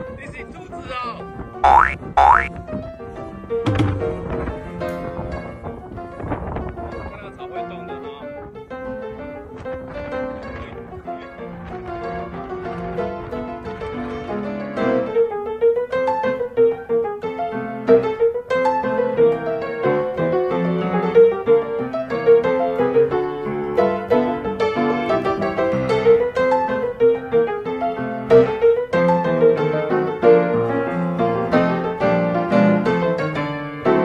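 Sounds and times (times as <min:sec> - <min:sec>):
bouncy piano music: 0:01.5 - 0:34.0.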